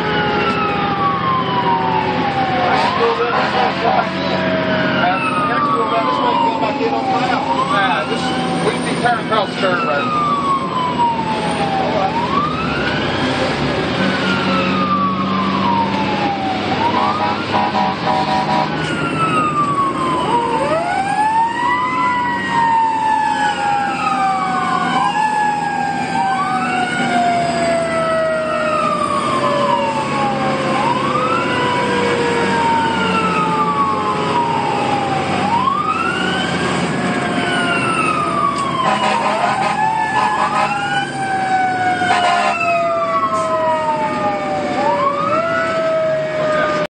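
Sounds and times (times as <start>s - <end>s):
fire engine siren wailing: 0.0s - 46.9s.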